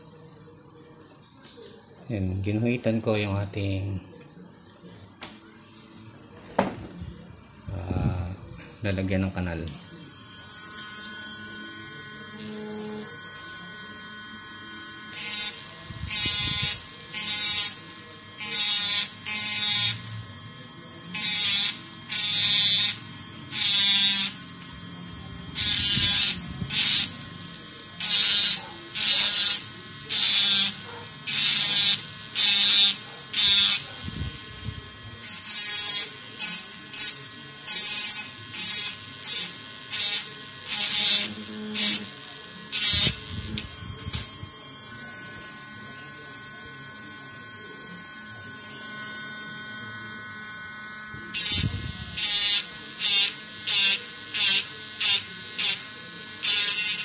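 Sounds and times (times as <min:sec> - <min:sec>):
rotary tool grinding circuit board: 0:09.8 - 0:57.0.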